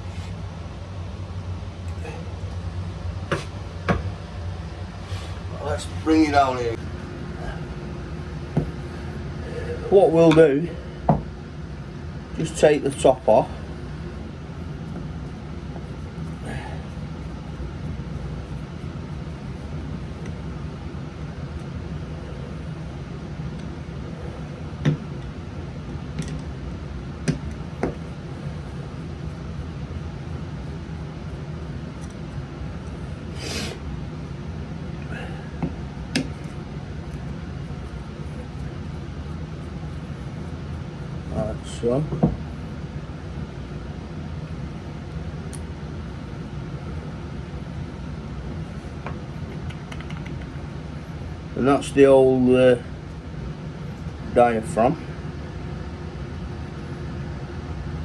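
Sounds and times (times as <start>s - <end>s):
low background rumble: 0.0s - 58.0s
steady low hum: 0.0s - 58.0s.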